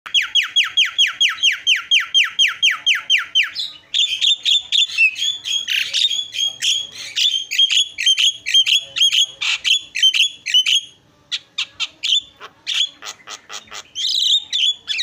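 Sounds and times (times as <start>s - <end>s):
bird whistles and harsh chatter: 0.1s - 15.0s.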